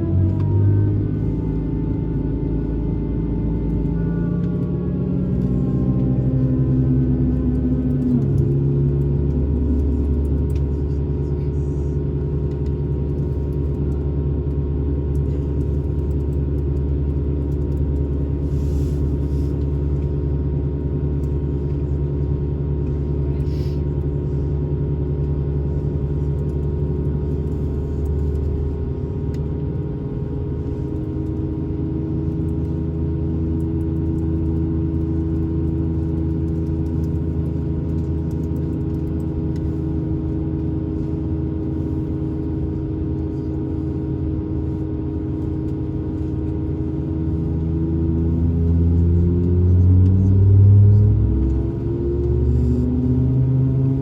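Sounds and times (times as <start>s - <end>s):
jet engine cabin drone: 0.0s - 54.0s.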